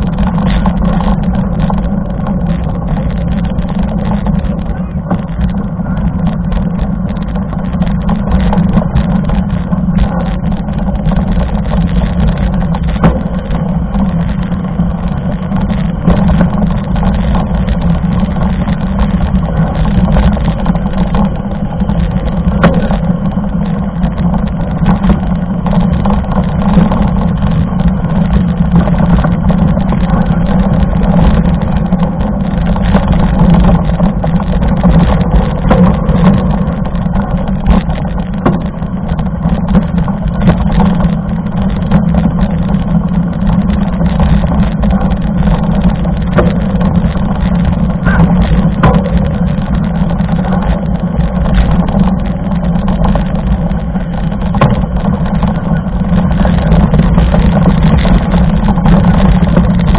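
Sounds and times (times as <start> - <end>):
bike clicks and rattles: 0.0 - 59.9
bike tyres rolling on gravel: 0.0 - 59.9
wind rumble on microphone: 0.0 - 59.9.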